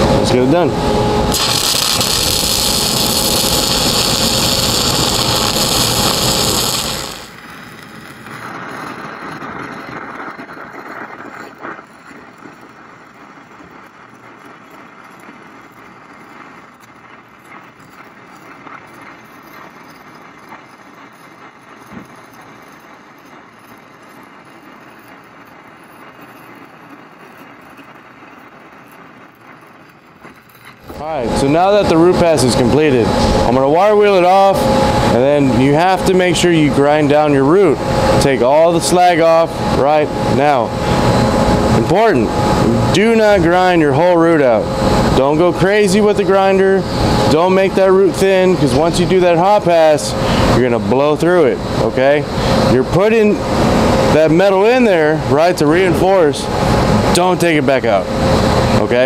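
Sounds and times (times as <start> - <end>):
welding arc hissing: 0.0 - 59.0.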